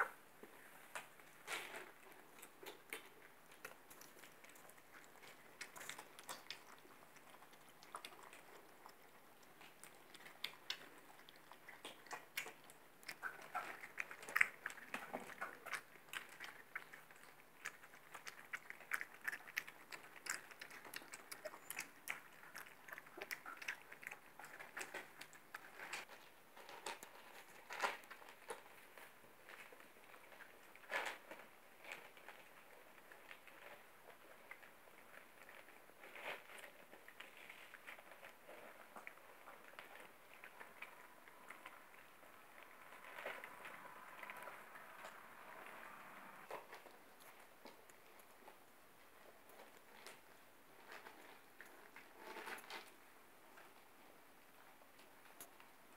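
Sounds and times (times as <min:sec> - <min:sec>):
puppies crunching dry kibble: 0:00.0 - 0:55.9.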